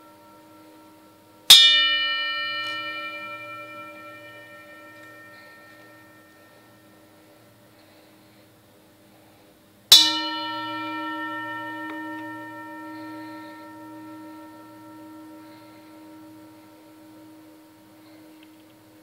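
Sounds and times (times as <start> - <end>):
metal object struck ringing: 0.0 - 7.7, 9.9 - 19.0.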